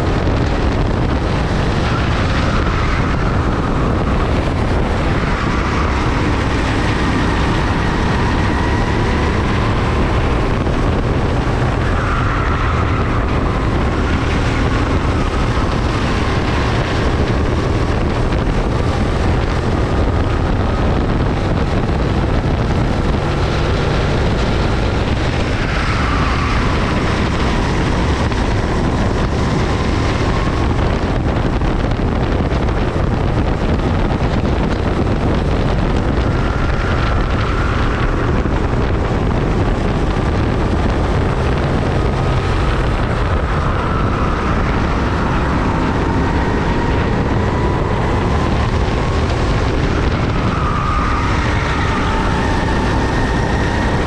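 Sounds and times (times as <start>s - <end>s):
racing kart engines: 0.0s - 54.0s
wind on microphone: 0.0s - 54.0s.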